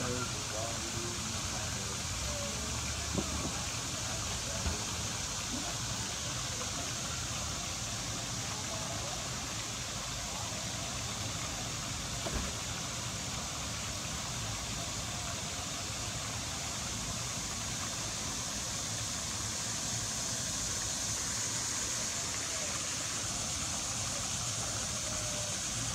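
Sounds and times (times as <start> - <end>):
fountain spray splashing: 0.0 - 25.9
high hiss: 0.0 - 25.9.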